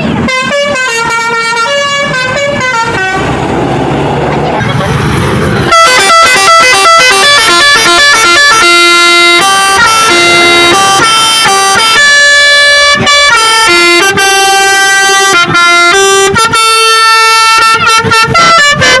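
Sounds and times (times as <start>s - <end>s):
multi-note air horn tune: 0.3s - 3.3s, 5.7s - 19.0s.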